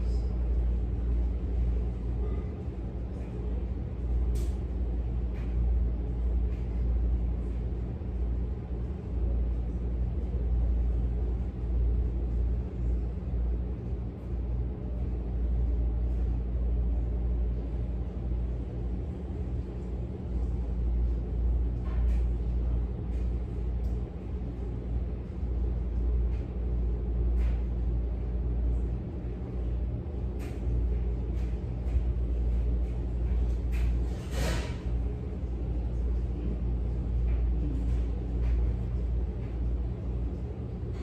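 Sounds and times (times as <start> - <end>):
constant hum: 0.0 - 41.0.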